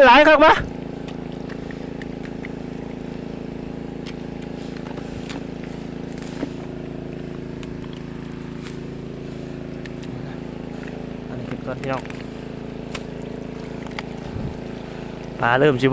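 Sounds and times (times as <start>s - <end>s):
tractor engine running steadily: 0.0s - 15.9s.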